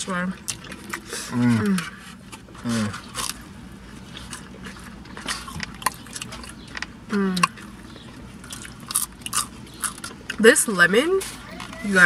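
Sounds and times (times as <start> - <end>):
chewing and mouth noises: 0.1 - 10.5, 11.2 - 11.9.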